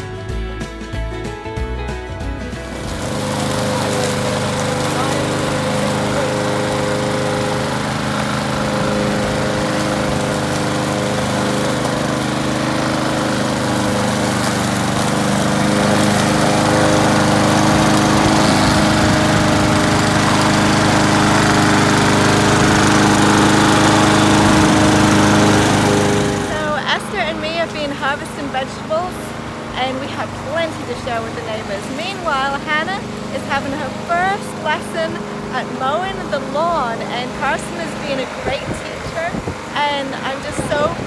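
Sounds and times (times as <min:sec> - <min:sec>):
lawn mower running: 0:00.0 - 0:41.0.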